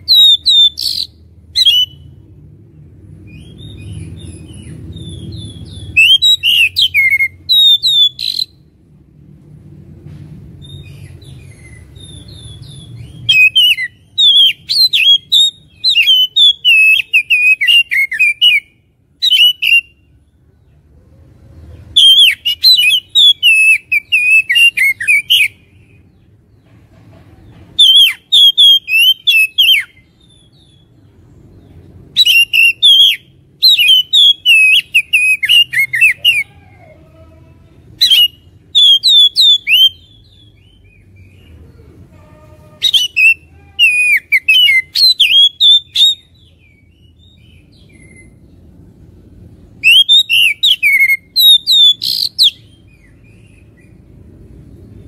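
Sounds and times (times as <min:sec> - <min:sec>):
magpie-robin singing: 0:00.0 - 0:02.3, 0:03.2 - 0:08.6, 0:10.6 - 0:20.1, 0:21.8 - 0:26.4, 0:27.7 - 0:36.6, 0:37.9 - 0:41.7, 0:42.4 - 0:48.7, 0:49.7 - 0:54.2.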